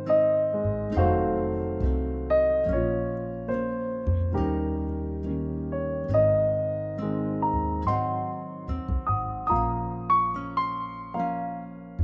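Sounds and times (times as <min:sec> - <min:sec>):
plucked harp-like music: 0:00.0 - 0:12.0.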